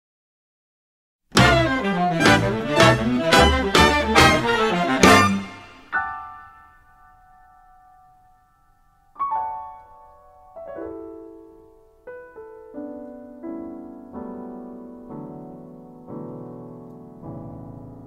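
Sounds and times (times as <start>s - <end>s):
slow piano music: 1.4s - 18.0s.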